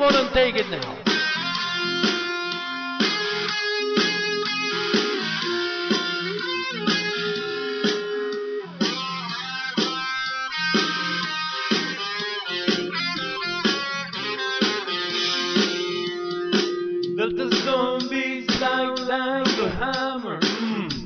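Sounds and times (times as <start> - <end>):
plucked guitar notes: 0.0 - 18.2
steady beat: 0.0 - 21.0.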